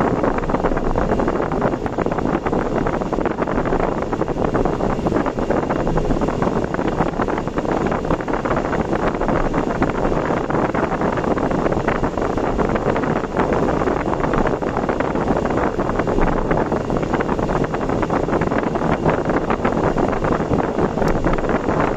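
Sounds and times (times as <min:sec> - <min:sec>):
vehicle road noise: 0:00.0 - 0:21.9
wind on microphone: 0:00.0 - 0:21.9.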